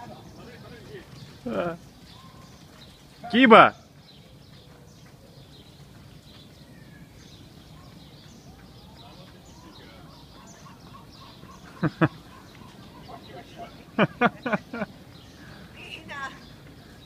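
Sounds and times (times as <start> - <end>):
sharp bird calls: 0.0 - 17.0
small birds chirping faintly: 0.0 - 17.0.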